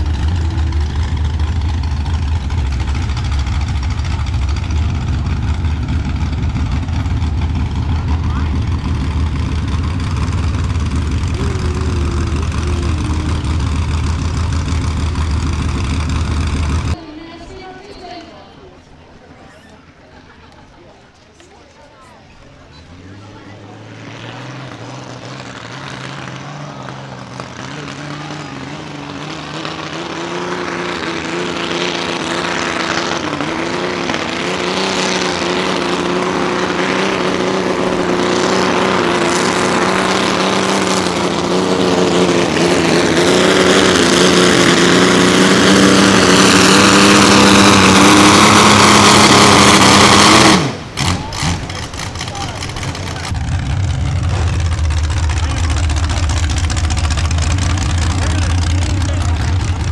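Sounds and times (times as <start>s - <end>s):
tractor engine running hard: 0.0s - 17.0s, 22.2s - 59.9s.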